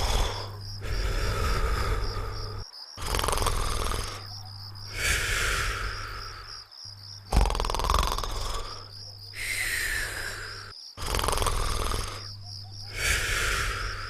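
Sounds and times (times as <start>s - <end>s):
cartoon snoring: 0.0s - 6.5s, 7.2s - 14.0s.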